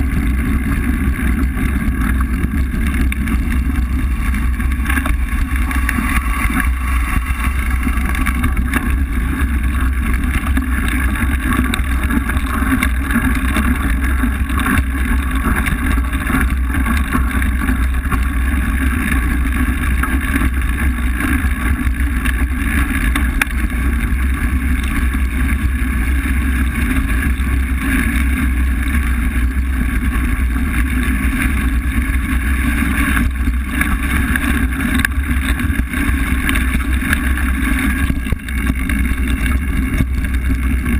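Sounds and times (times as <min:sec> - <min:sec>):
bike frame rattle: 0:00.0 - 0:40.9
tyres on gravel: 0:00.0 - 0:40.9.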